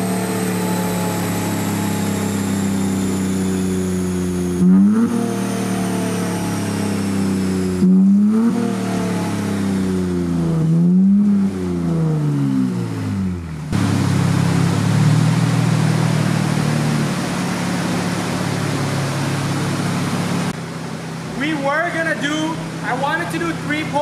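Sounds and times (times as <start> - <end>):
car engine revving on dyno: 0.0 - 20.6.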